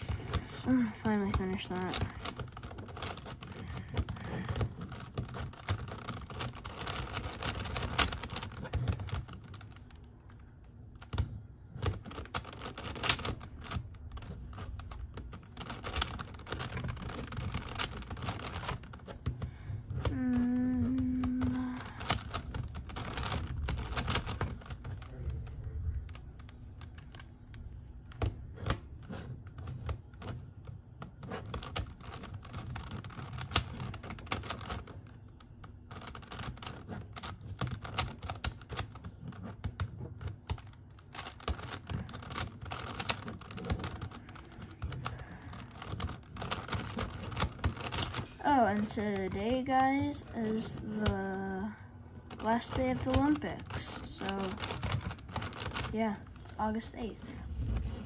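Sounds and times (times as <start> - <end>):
puzzle cube plastic clicks: 0.0 - 51.4, 52.1 - 58.0.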